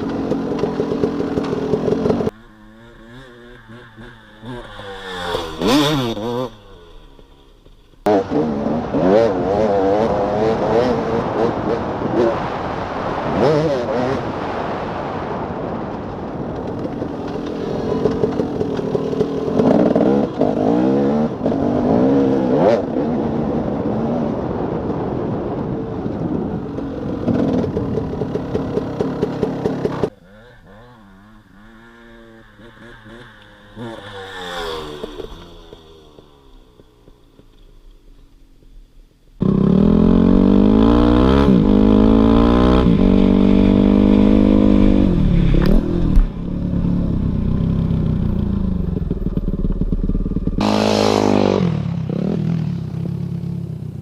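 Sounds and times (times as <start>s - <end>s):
dirt bike engine revving: 0.0s - 14.4s, 16.5s - 24.0s, 27.1s - 37.5s, 39.4s - 53.6s
distant dirt bike revving: 0.0s - 38.8s, 39.4s - 54.0s.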